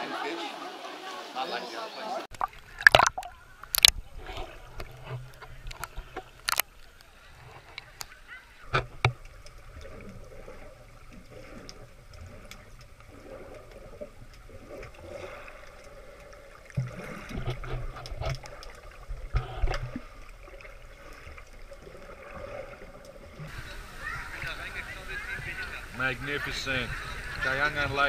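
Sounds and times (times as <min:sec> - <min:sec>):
muffled underwater sloshing: 0:02.3 - 0:28.0.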